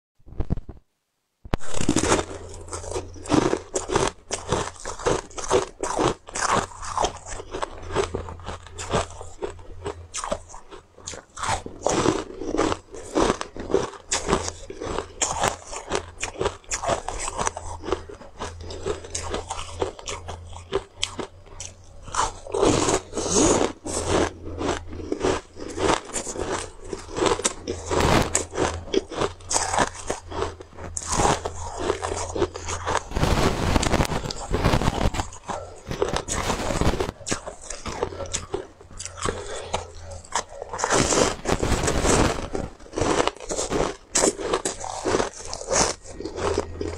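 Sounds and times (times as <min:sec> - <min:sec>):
steady low hum: 0:00.3 - 0:46.9
ice crunching between teeth: 0:01.5 - 0:46.9.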